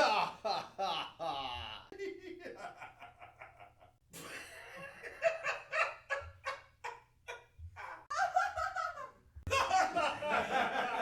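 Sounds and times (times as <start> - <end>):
person laughing: 0.0 - 11.0.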